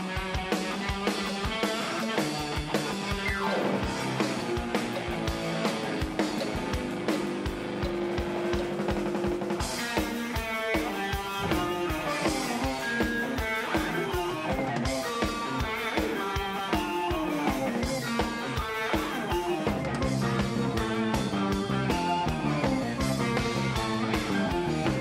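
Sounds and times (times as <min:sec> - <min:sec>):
bass guitar: 0:00.0 - 0:25.0
electric guitar lead line: 0:00.0 - 0:25.0
steady drum beat: 0:00.0 - 0:25.0.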